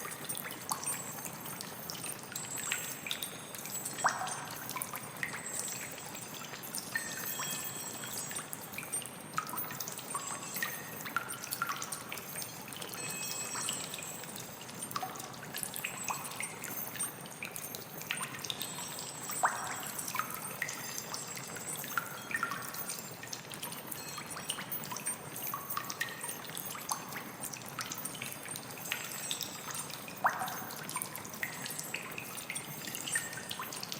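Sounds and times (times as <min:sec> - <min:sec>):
water drips plinking: 0:00.0 - 0:33.9
water trickling: 0:00.0 - 0:33.9.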